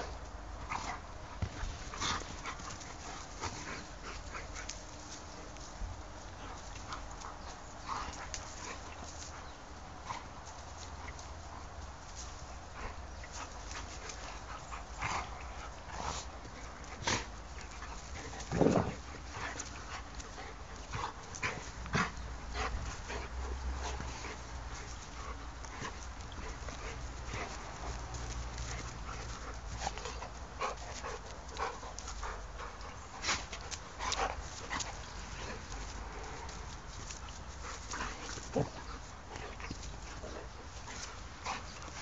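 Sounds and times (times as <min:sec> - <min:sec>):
dogs play-fighting vocal sounds: 0:00.6 - 0:05.6, 0:06.2 - 0:42.0.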